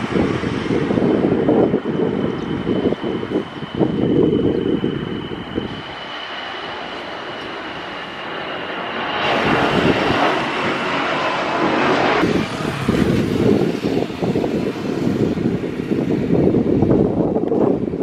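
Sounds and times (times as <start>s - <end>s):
jet airliner engines: 0.0s - 18.0s
wind buffeting microphone: 0.0s - 18.0s.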